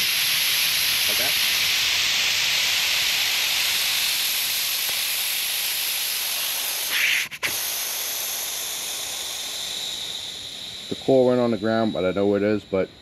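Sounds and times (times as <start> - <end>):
air hissing from tire valve: 0.0 - 13.0.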